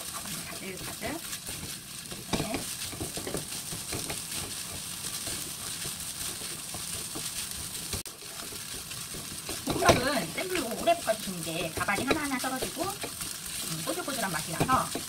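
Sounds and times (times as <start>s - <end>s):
fried rice sizzling in a wok: 0.0s - 15.0s
wooden spatula scraping a pan: 0.0s - 15.0s.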